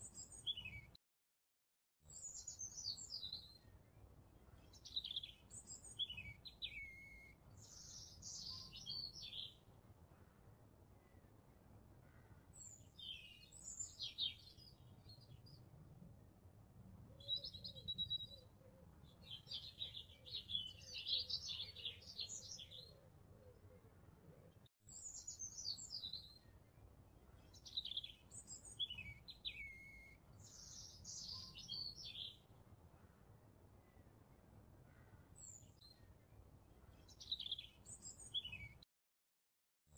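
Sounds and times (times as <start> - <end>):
songbirds chirping: 0.0 - 1.0, 2.0 - 38.8.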